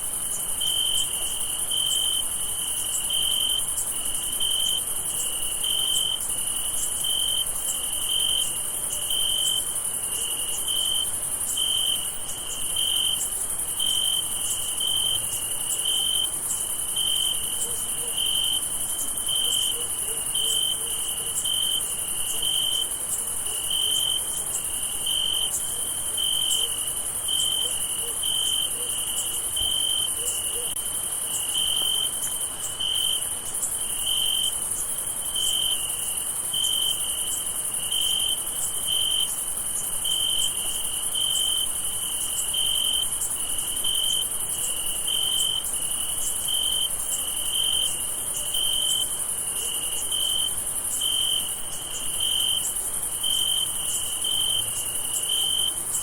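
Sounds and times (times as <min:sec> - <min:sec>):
cricket chirping: 0:00.0 - 0:56.0
drone of many crickets: 0:00.0 - 0:56.0.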